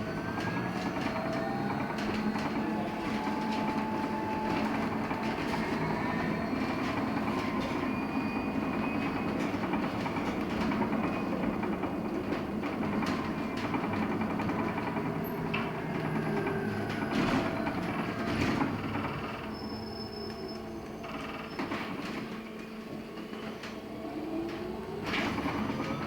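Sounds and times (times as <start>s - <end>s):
road and tyre noise: 0.0s - 26.0s.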